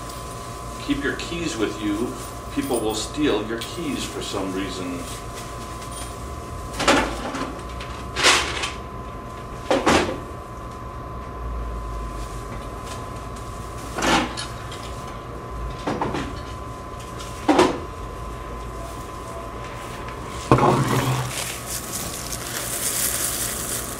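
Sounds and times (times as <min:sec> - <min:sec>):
faint hum: 0:00.0 - 0:23.9.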